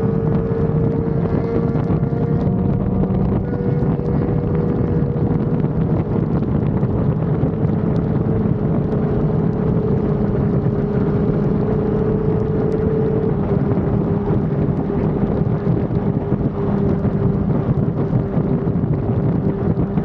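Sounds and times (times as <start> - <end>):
motorcycle engine cruising: 0.0 - 20.0
wind rushing over microphone: 0.0 - 20.0.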